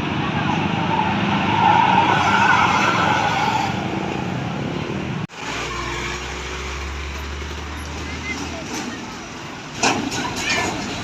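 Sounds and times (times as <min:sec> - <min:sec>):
bus passing close by: 0:00.0 - 0:11.0.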